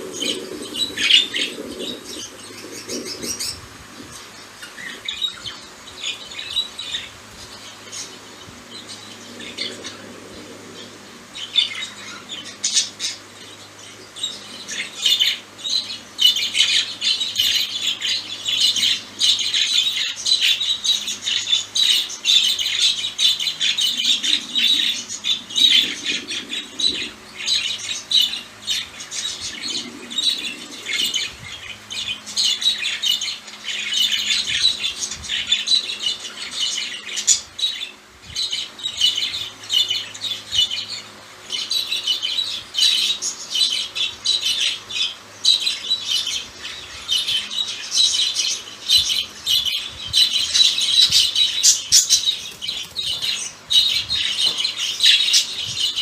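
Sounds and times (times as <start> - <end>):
budgerigars chattering and squawking: 0.0 - 56.0.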